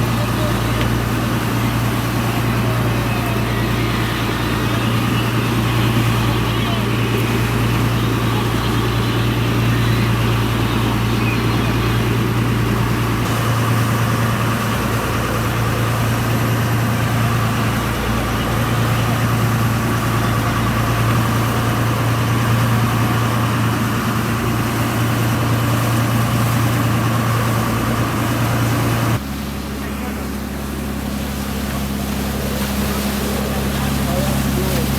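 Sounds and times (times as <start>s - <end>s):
boat engine droning: 0.0s - 34.9s
wind and water rushing: 0.0s - 34.9s.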